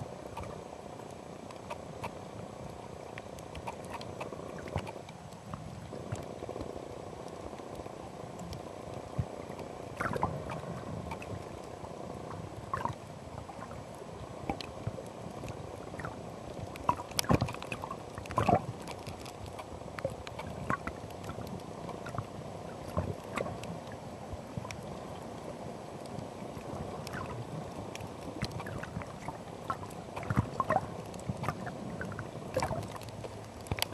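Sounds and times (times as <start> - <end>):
low water sound: 0.0 - 33.9.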